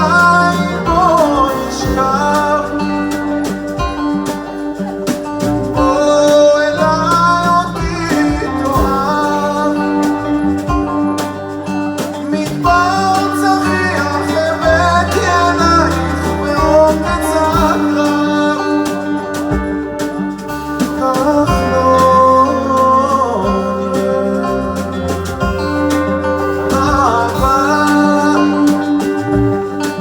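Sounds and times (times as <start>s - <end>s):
guitar plucked and strummed: 0.0s - 30.0s
person singing: 0.0s - 30.0s.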